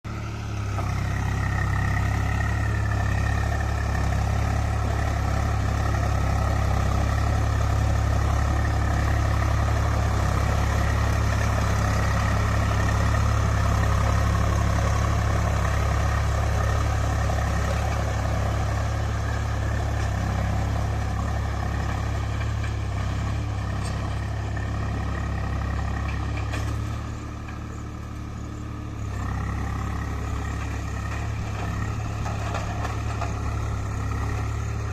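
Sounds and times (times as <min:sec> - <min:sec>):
tractor diesel engine rumbling: 0:00.0 - 0:34.9.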